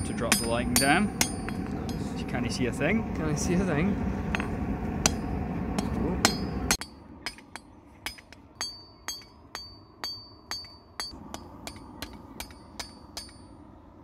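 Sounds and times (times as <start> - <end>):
hammer striking steel on anvil: 0.0 - 2.2, 4.3 - 13.6.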